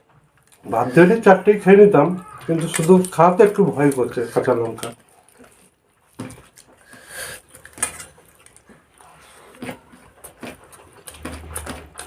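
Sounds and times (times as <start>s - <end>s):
people eating softly: 0.0s - 12.0s.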